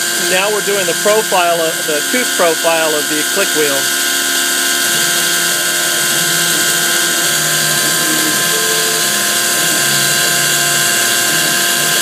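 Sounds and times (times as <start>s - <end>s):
axis motors low tones: 0.0s - 12.0s
milling machine spindle whine: 0.0s - 12.0s.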